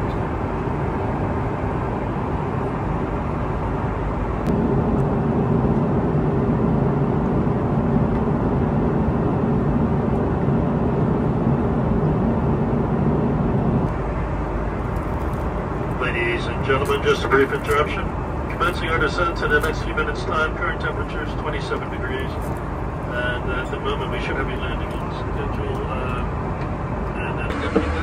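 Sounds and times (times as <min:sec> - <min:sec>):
airplane cabin engine rumble: 0:00.0 - 0:28.0
low hum: 0:00.0 - 0:28.0.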